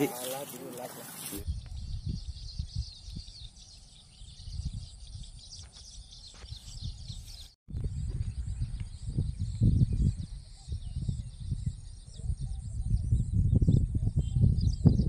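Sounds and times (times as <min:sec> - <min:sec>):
small birds chirping: 0:00.0 - 0:15.0
wind buffeting microphone: 0:01.3 - 0:15.0.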